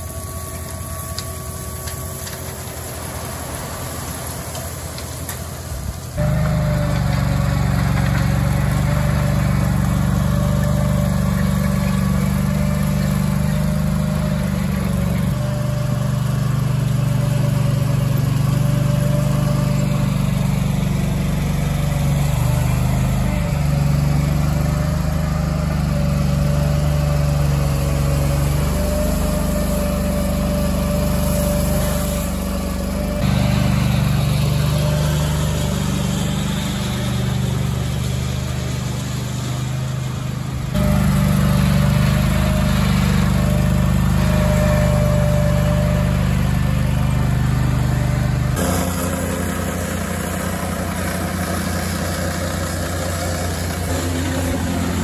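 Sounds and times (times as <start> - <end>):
loader engine running: 0.0 - 55.0.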